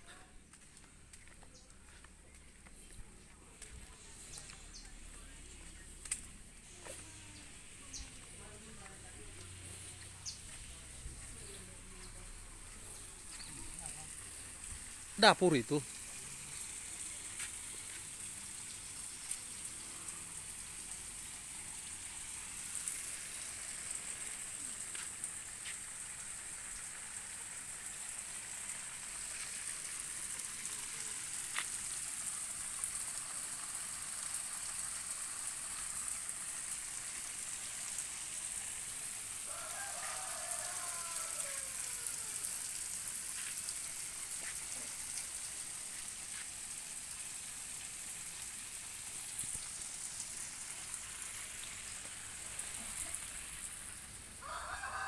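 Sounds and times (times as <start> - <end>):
steady high hiss: 4.1 - 54.8.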